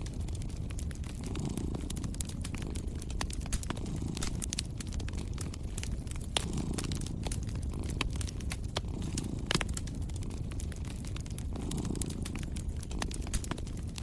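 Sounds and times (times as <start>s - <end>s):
cat purring: 0.0s - 14.0s
wood fire crackling and popping: 0.0s - 14.0s.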